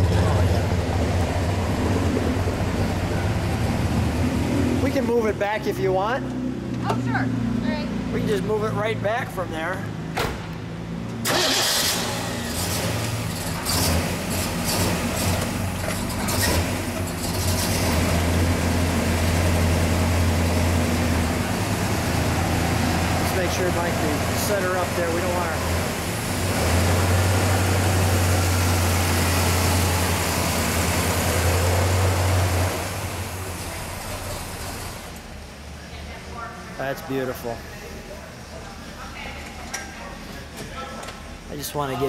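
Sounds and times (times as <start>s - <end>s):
car engine idling: 0.0s - 36.4s.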